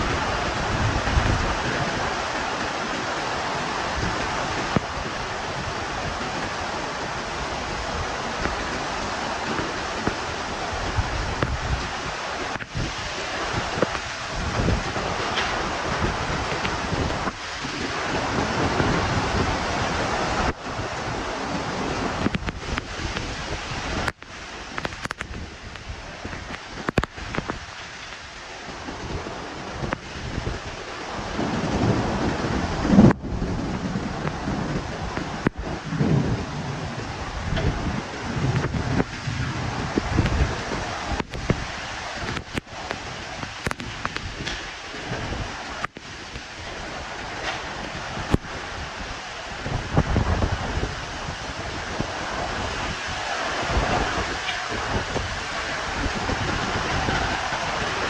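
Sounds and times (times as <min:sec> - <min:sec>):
heavy rain: 0:00.0 - 0:58.0
wind buffeting microphone: 0:00.0 - 0:58.0.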